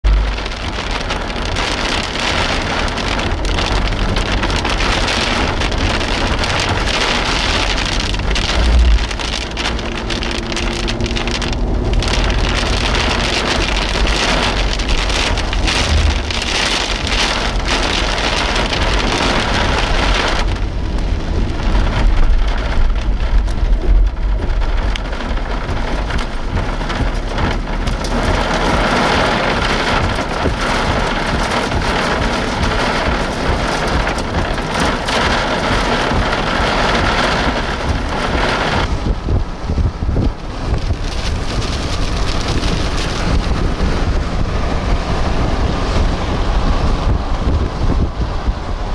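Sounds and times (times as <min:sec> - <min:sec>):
low rumble: 0:00.0 - 0:48.9
rain on vehicle windshield: 0:00.0 - 0:48.9.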